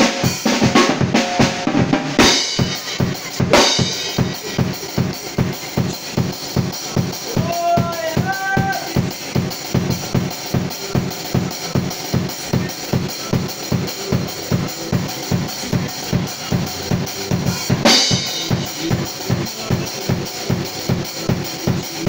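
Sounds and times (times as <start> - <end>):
drum kit steady beat: 0.0 - 22.0.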